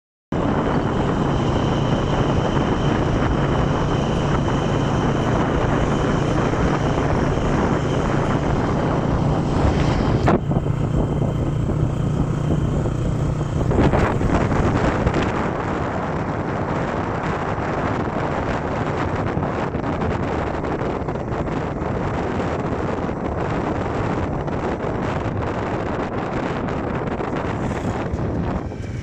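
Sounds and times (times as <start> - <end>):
engine hum: 0.3 - 29.0
wind noise on microphone: 0.3 - 29.0.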